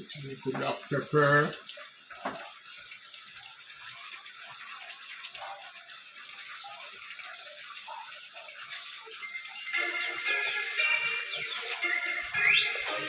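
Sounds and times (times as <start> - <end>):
stew simmering with bubbling pops: 0.0 - 13.0.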